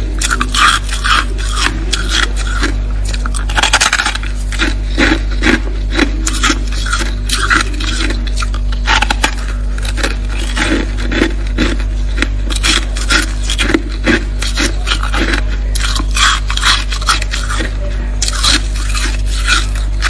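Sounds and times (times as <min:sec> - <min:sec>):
freezer frost being scraped: 0:00.0 - 0:20.0
steady low hum: 0:00.0 - 0:20.0.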